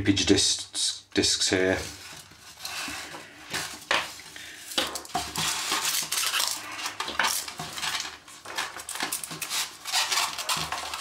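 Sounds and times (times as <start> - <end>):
plastic parts clattering on polystyrene: 1.6 - 11.0.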